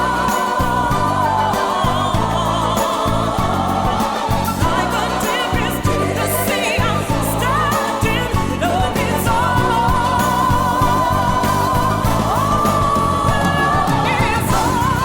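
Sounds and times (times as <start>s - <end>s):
music with singing: 0.0s - 15.0s
pulsing bass: 0.0s - 15.0s.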